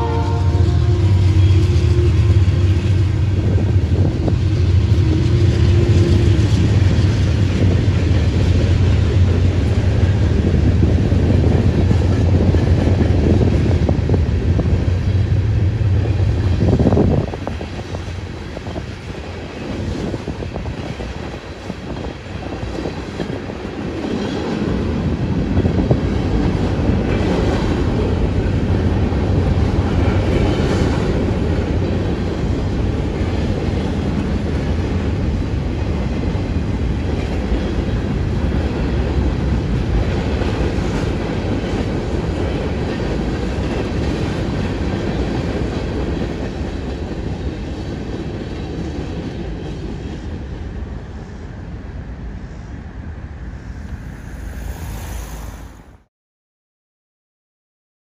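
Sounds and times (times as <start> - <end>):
freight train rumble: 0.0 - 56.1.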